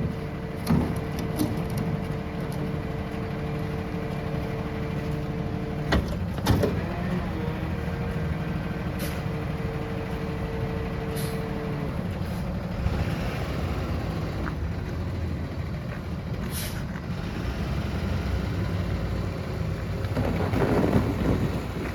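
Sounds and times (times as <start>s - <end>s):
garbage truck engine running: 0.0s - 21.9s.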